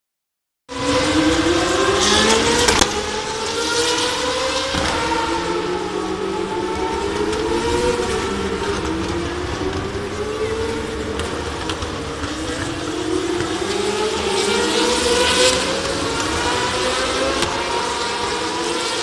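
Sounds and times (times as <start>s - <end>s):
car engines revving: 0.7s - 19.0s.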